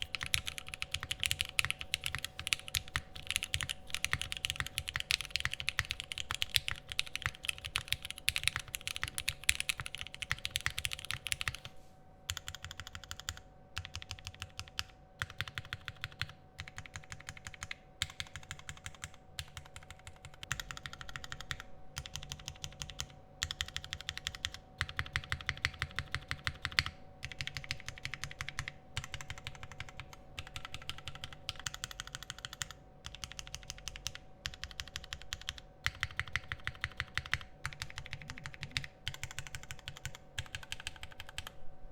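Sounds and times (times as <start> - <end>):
mechanical keyboard typing: 0.0 - 11.7, 12.3 - 41.6
faint steady hum: 0.0 - 41.9.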